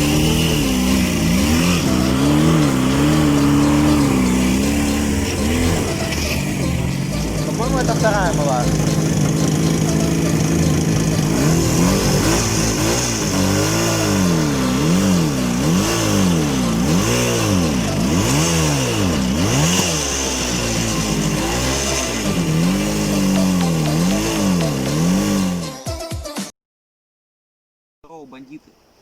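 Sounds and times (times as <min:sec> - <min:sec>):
motorcycle engine revving: 0:00.0 - 0:25.8.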